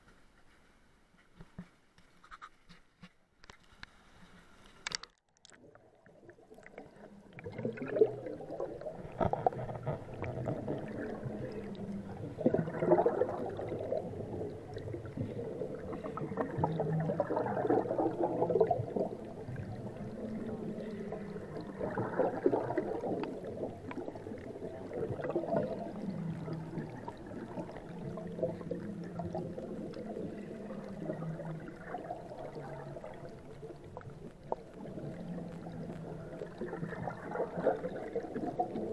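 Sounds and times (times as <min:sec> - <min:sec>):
underwater churning and gurgling: 0:05.4 - 0:38.9.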